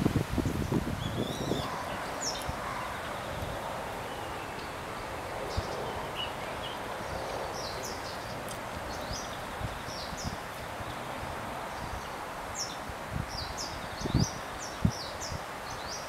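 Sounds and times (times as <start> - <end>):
outdoor background hiss: 0.0 - 16.0
small birds chirping: 0.4 - 16.0.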